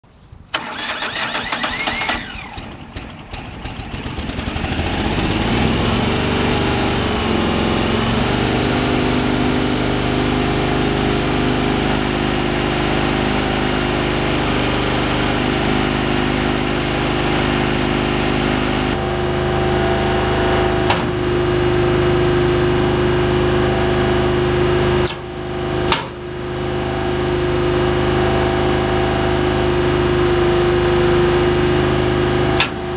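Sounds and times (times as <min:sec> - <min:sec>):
brush chipper engine running: 0:00.6 - 0:32.9.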